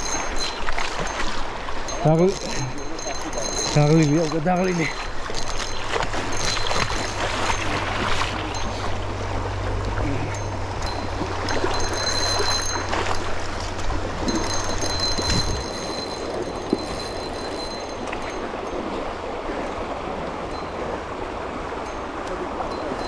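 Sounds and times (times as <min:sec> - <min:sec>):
faint high ringing tone: 0:00.0 - 0:09.2, 0:10.0 - 0:23.0
river water rushing: 0:00.0 - 0:23.0.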